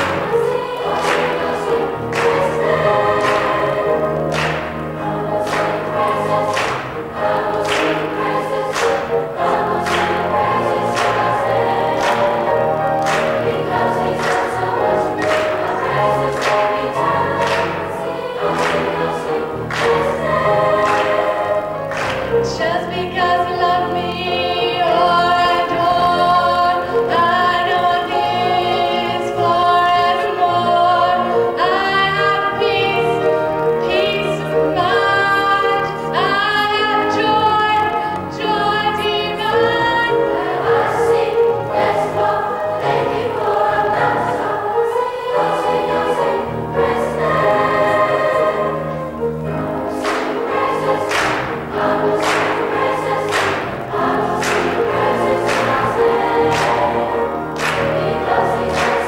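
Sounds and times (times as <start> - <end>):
choir singing gospel: 0.0 - 59.0.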